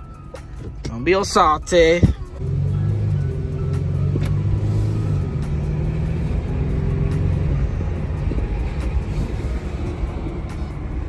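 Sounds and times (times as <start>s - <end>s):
car engine drone: 0.0s - 11.0s
road and tyre rumble: 0.0s - 11.0s.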